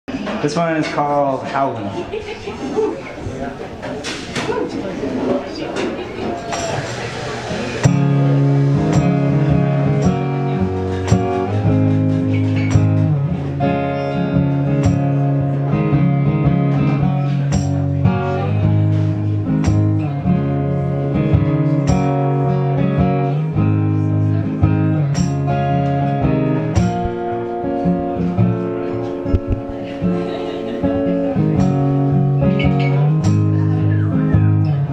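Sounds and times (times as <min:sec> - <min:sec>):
acoustic guitar strumming chords: 0:06.5 - 0:34.9.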